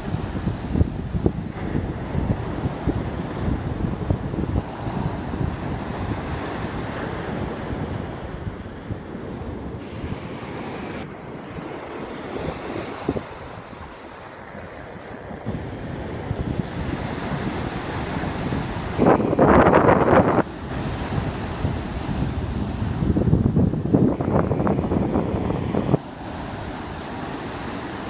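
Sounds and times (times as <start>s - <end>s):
ocean surf breaking: 0.0s - 28.0s
wind rumbling on microphone: 0.0s - 28.0s.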